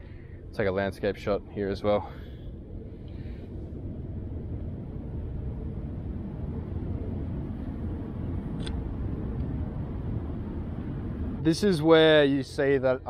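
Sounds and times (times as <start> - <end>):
low rumble of vehicle noise: 0.0 - 13.0.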